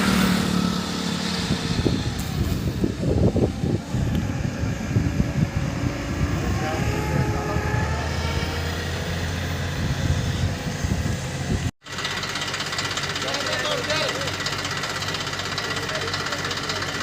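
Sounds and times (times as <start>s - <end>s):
heavy machine engine humming: 0.0s - 17.0s.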